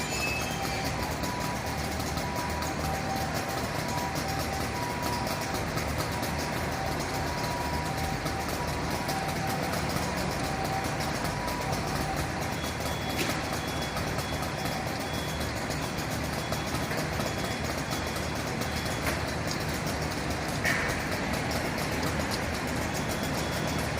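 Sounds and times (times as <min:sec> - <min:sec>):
fire truck engine idling: 0:00.0 - 0:23.9.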